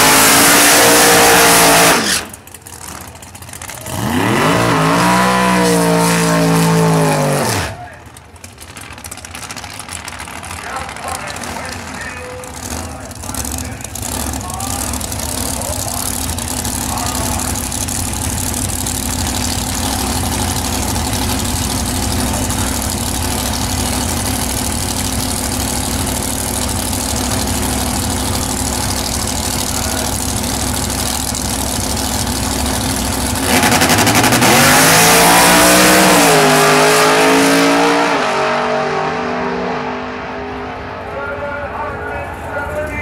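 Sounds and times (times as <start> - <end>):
cars launching at full throttle: 0.0 - 43.0
drag racing cars idling: 0.0 - 43.0.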